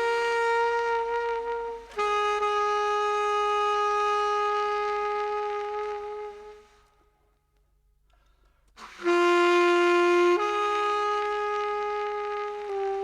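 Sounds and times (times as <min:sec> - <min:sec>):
saxophone playing long notes: 0:00.0 - 0:07.1, 0:08.8 - 0:13.0.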